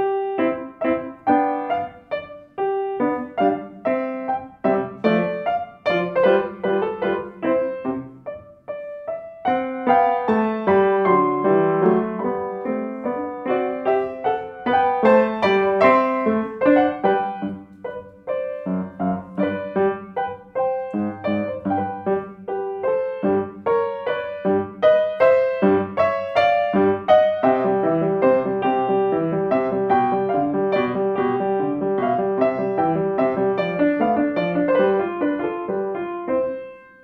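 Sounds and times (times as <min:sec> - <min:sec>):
solo piano: 0:00.0 - 0:37.0.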